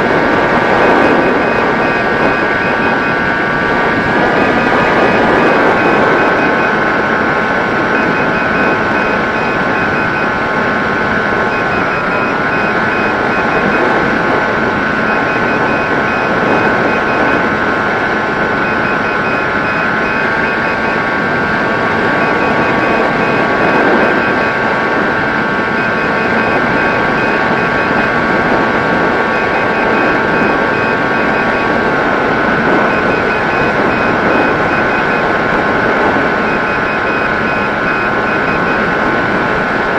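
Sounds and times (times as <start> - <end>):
electric motor and propeller whine: 0.0 - 39.9
wind noise: 0.0 - 39.9.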